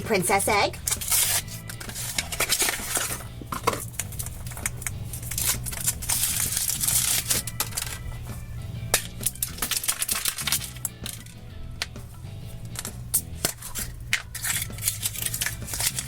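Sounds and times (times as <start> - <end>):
background music: 0.0 - 16.0
foil crinkling: 0.8 - 11.4, 12.6 - 16.0.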